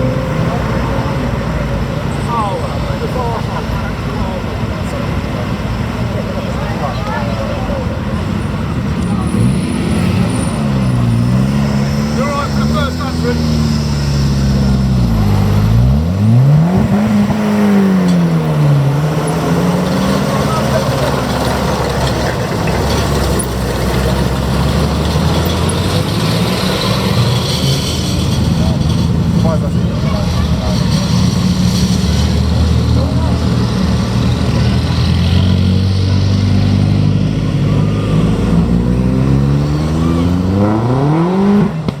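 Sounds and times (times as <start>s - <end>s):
engine revving under load: 0.0s - 42.0s.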